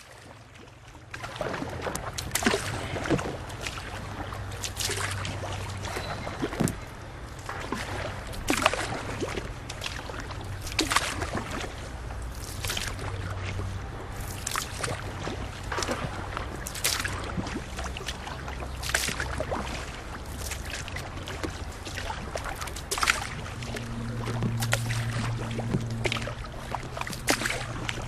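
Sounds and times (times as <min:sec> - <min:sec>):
paddle splashing in water: 0:00.0 - 0:28.0
steady low hum: 0:00.0 - 0:28.0.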